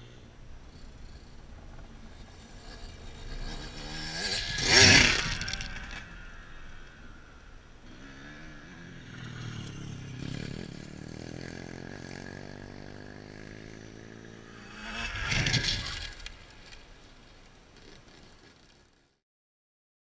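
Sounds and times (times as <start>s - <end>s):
dirt bike engine: 0.0s - 19.2s.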